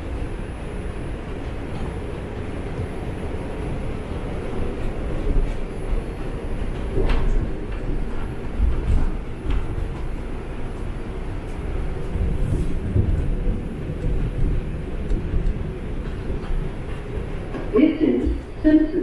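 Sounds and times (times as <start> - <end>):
train clanks and squeaks: 0.0 - 19.0
train wheels rumbling on rails: 0.0 - 19.0.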